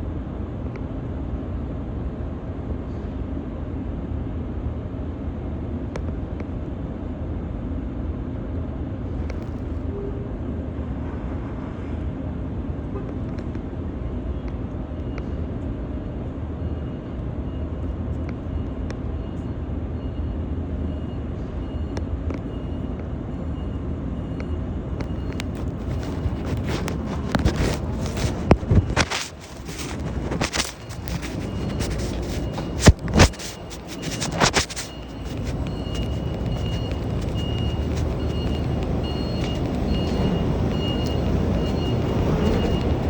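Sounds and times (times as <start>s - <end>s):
vehicle running rumble: 0.0s - 43.0s.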